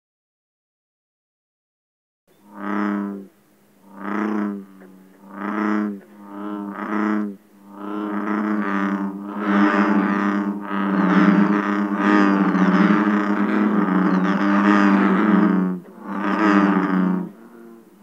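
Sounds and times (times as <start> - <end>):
bullfrog deep droning calls: 2.3 - 18.0.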